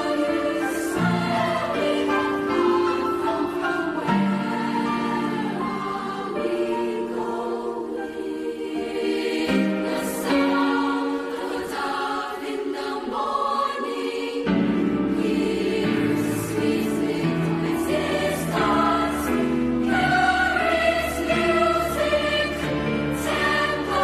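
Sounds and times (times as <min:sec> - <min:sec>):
youth choir singing in parts: 0:00.0 - 0:24.0.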